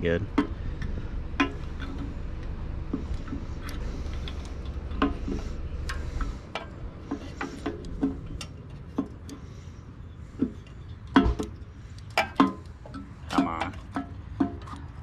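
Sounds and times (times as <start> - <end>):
carburetor parts clicking and knocking: 0.0 - 9.6, 10.2 - 15.0
low steady rumble: 0.0 - 15.0.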